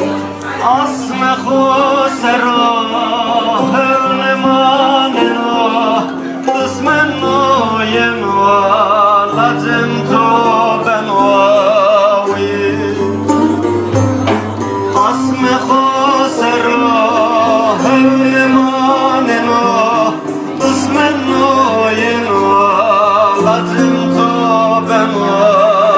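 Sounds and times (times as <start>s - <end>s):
instrumental accompaniment: 0.0s - 25.9s
man singing with vibrato: 0.0s - 25.9s.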